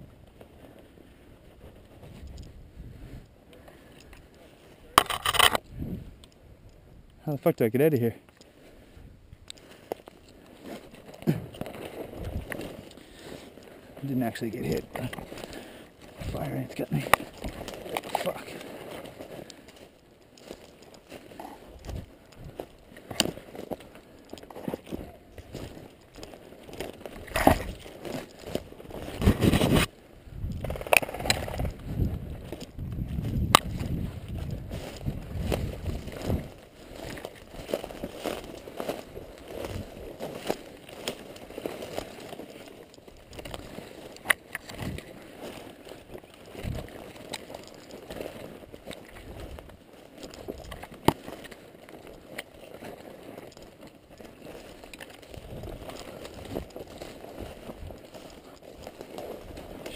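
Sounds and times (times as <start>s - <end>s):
branches scraping: 9.6s - 59.9s
footsteps crunching through dry leaves: 9.6s - 59.9s.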